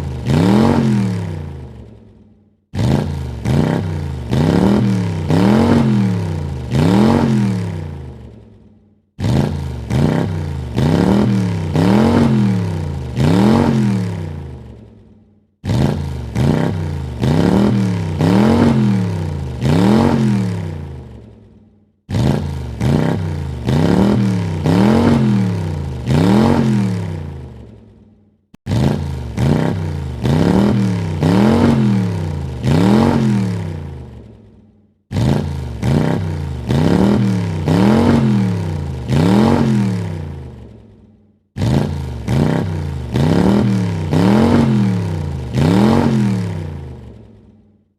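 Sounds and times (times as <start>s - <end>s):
car engine revving: 0.0s - 2.0s, 2.7s - 8.4s, 9.2s - 15.0s, 15.6s - 21.3s, 22.1s - 27.8s, 28.6s - 34.3s, 35.1s - 40.8s, 41.6s - 47.3s.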